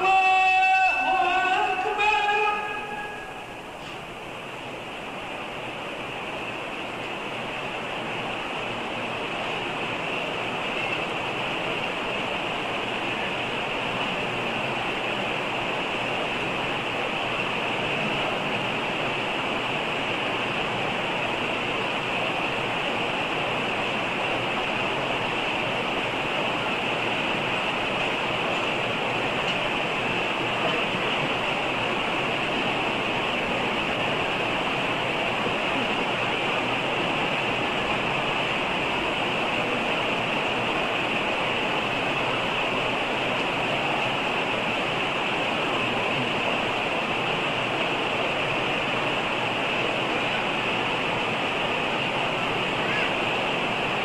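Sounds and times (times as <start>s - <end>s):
steady hissing background noise: 0.0s - 54.0s.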